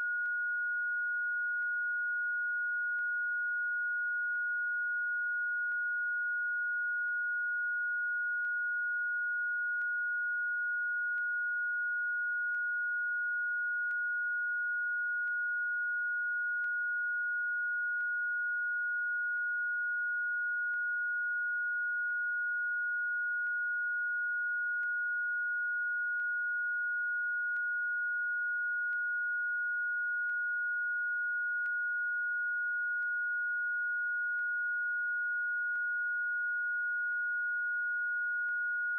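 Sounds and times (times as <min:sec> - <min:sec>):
high-pitched sine tone: 0:00.0 - 0:38.9.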